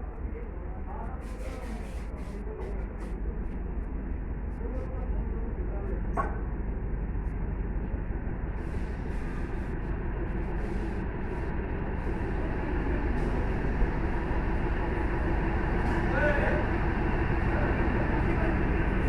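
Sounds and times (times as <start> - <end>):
train engine and wheels rumbling: 0.0 - 19.0.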